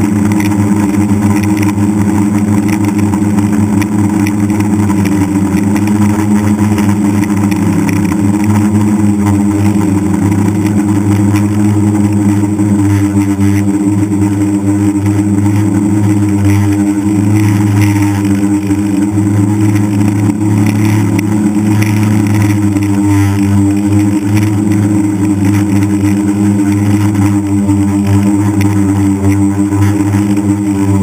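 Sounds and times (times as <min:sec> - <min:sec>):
drone motors humming: 0:00.0 - 0:31.0.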